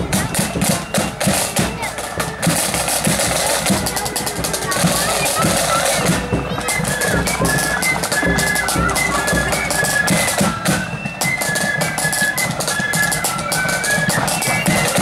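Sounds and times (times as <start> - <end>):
flutes playing high melody: 0.0 - 15.0.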